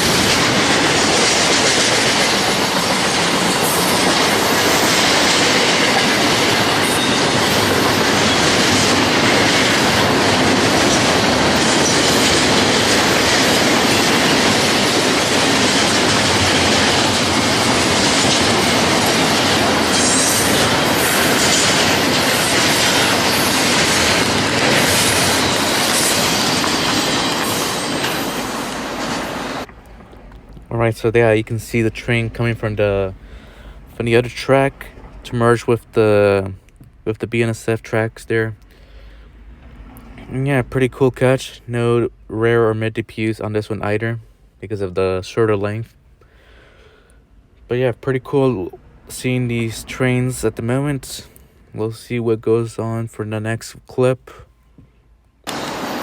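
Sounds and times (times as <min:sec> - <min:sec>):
freight train wheels on rails: 0:00.0 - 0:42.2, 0:47.1 - 0:56.0.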